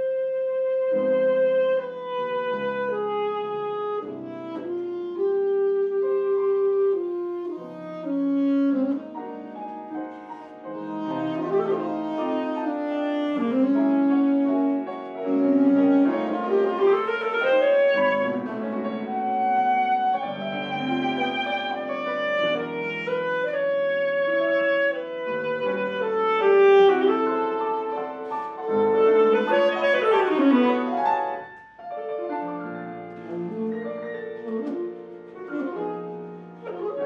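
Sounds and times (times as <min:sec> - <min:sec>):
alto saxophone melody: 0:00.0 - 0:37.0
piano accompaniment: 0:00.0 - 0:37.0.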